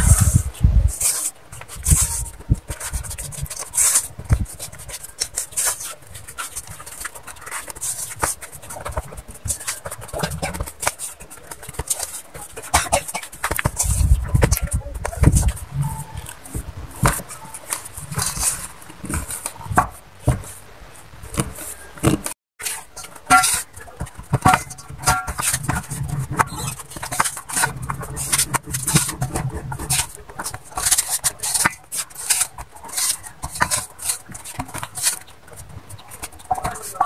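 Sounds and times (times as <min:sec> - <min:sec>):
hands kneading dough: 0:00.0 - 0:37.0.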